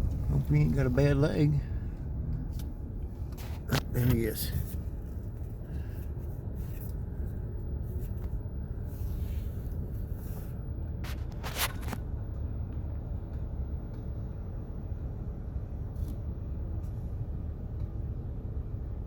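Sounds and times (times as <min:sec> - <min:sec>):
car driving low rumble: 0:00.0 - 0:19.0.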